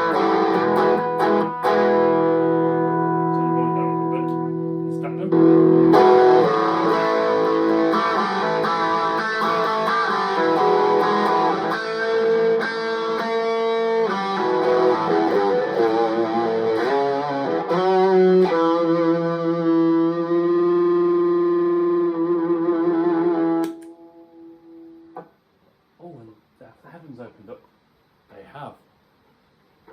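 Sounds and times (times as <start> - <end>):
distorted electric guitar: 0.0 - 25.3.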